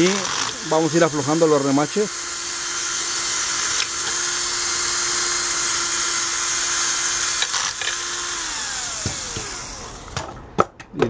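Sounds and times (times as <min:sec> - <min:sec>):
cordless drill drilling metal: 0:00.0 - 0:10.3.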